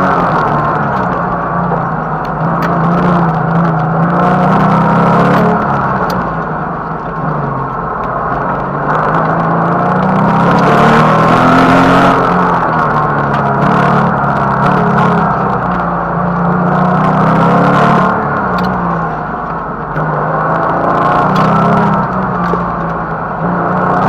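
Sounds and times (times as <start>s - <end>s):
car engine revving from cabin: 0.0s - 24.0s.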